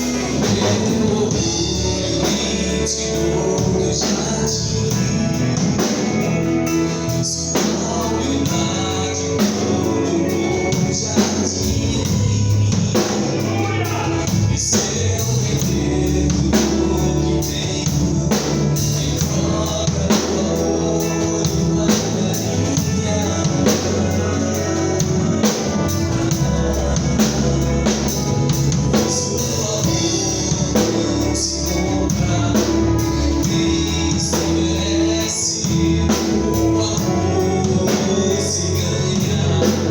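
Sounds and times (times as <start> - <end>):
drum kit beat: 0.0 - 39.9
gospel band singing: 0.0 - 39.9.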